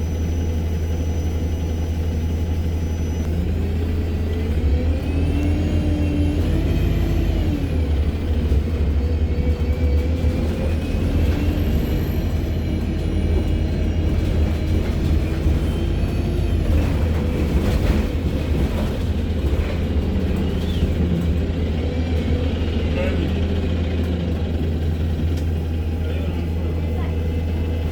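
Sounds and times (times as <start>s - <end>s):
bus engine drone: 0.0s - 27.9s
gearbox whine: 0.0s - 27.9s.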